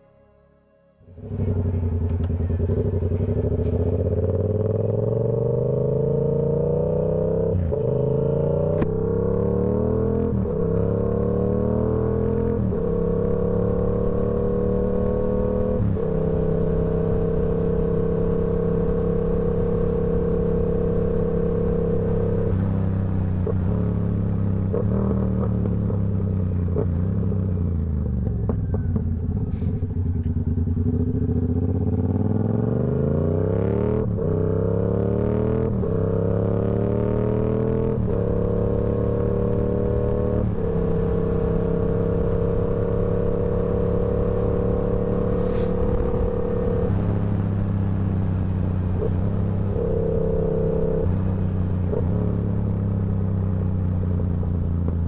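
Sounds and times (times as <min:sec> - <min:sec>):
motorcycle engine accelerating: 0:01.1 - 0:55.0.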